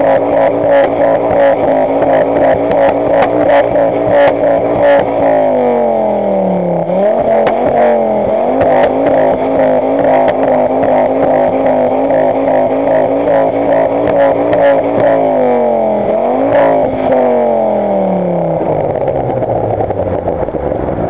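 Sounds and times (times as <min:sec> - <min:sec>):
exhaust pops: 0:00.0 - 0:05.6, 0:06.6 - 0:17.5, 0:18.3 - 0:21.0
car engine revving: 0:00.0 - 0:21.0.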